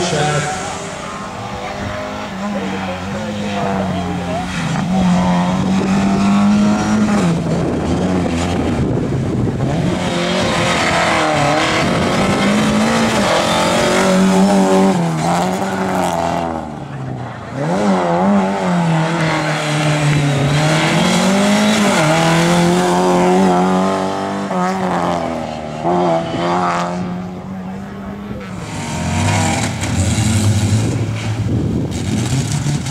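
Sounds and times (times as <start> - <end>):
rally car engine revving: 0.0 - 32.9.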